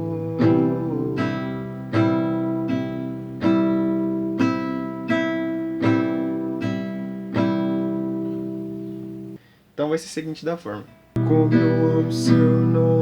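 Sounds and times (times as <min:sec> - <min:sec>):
acoustic guitar strumming: 0:00.0 - 0:09.4, 0:10.9 - 0:13.0.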